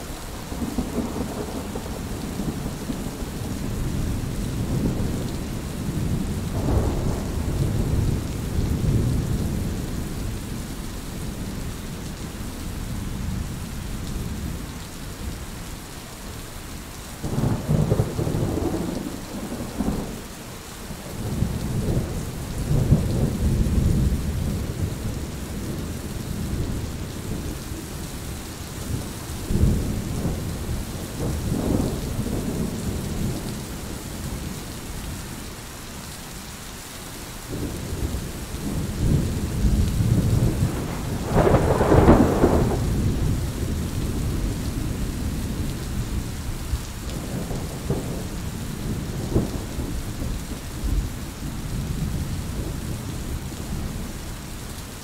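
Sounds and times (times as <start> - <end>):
steady rain: 0.0 - 55.0
low rolling thunder: 0.2 - 12.2, 17.2 - 20.3, 20.9 - 35.2, 37.5 - 54.2.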